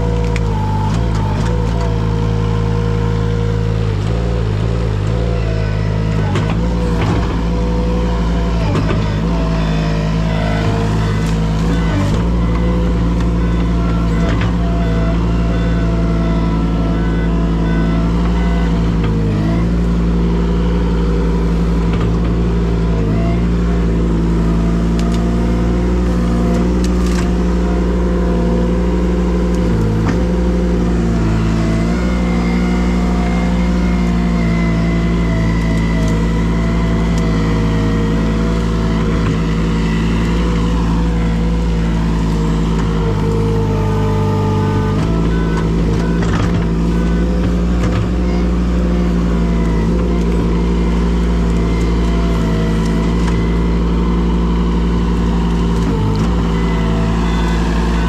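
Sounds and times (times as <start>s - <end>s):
engine running at high speed: 0.0s - 58.0s.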